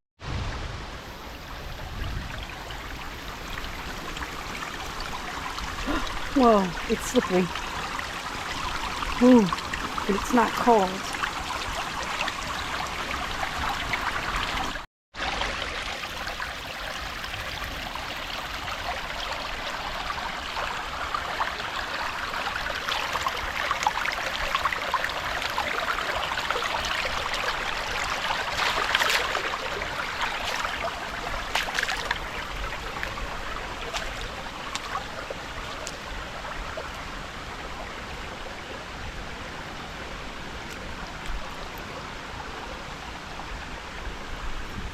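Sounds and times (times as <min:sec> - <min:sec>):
water splashes: 0:00.2 - 0:43.6
creek water babbling over rocks: 0:00.8 - 0:44.9.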